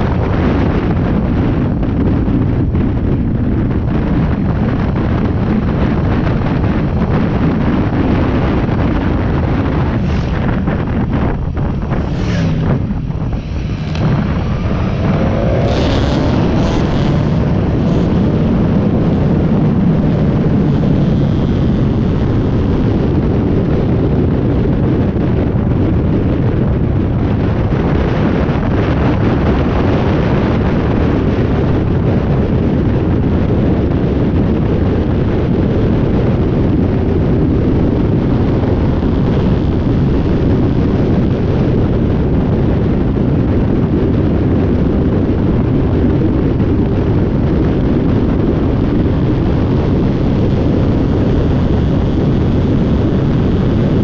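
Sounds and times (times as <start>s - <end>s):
motorcycle engine accelerating: 0.0s - 54.0s
wind buffeting microphone: 0.0s - 54.0s.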